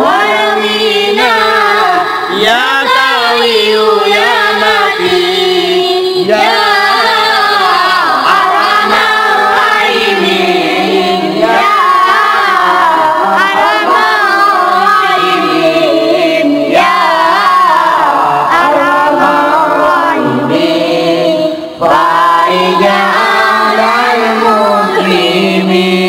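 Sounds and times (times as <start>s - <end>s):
boys singing into microphones: 0.0s - 26.0s.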